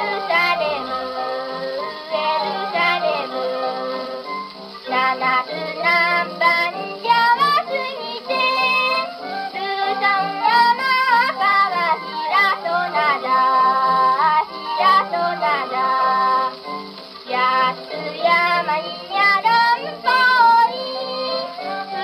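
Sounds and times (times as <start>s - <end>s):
girl singing: 0.0s - 3.8s, 4.9s - 16.5s, 17.3s - 22.0s
instrumental accompaniment: 0.0s - 22.0s.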